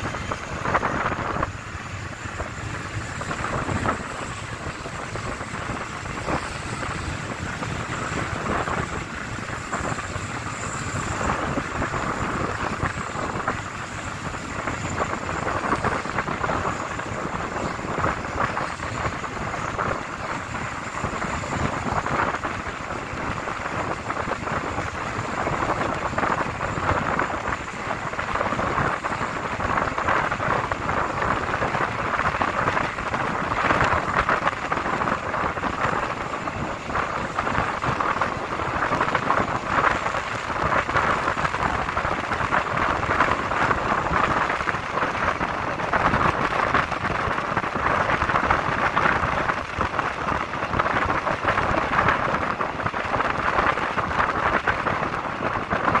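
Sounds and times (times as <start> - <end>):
wheels rumbling on rails: 0.0 - 56.0
wind rushing past train: 0.0 - 56.0.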